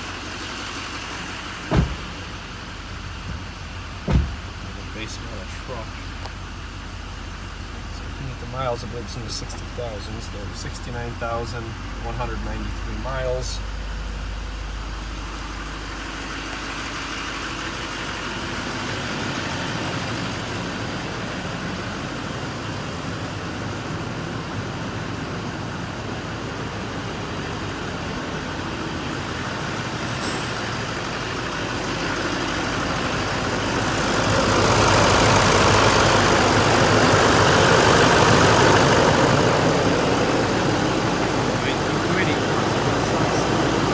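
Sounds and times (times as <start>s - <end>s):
diesel engine idling and revving: 0.0s - 43.9s.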